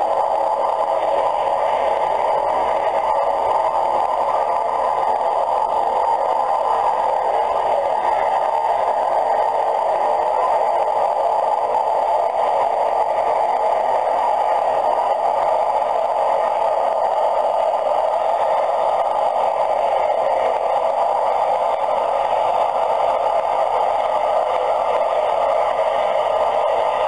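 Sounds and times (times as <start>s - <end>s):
turboprop engine drone: 0.0s - 27.0s.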